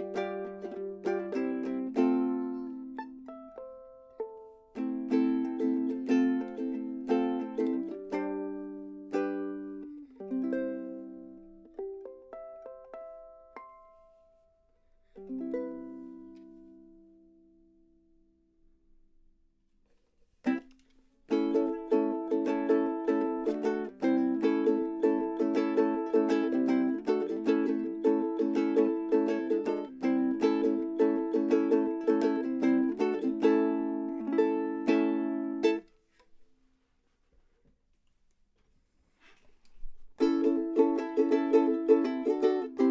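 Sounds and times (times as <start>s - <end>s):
fingerpicked ukulele: 0.0s - 18.3s, 20.4s - 36.5s, 39.7s - 42.9s.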